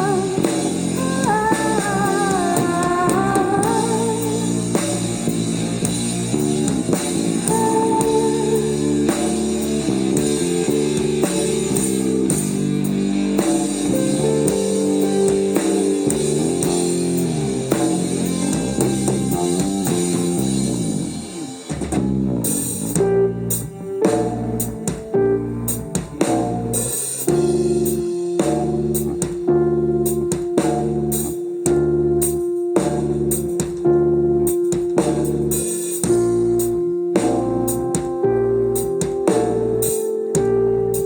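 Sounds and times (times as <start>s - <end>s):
rock band playing live: 0.0s - 41.0s.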